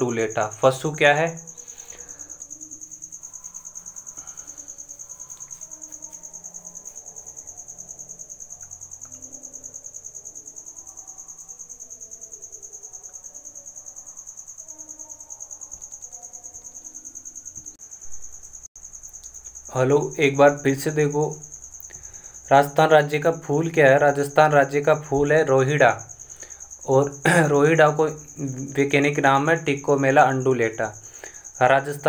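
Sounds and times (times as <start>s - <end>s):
cricket chirping: 0.0s - 32.0s.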